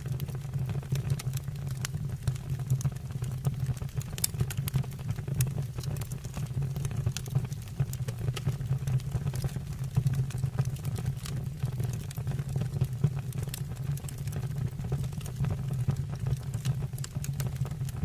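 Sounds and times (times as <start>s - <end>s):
fire crackling in a fireplace: 0.0s - 18.0s.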